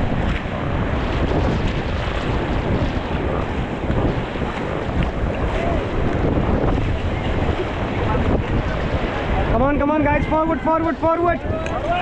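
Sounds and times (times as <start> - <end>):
rushing river water: 0.0 - 12.0
wind buffeting microphone: 0.0 - 12.0.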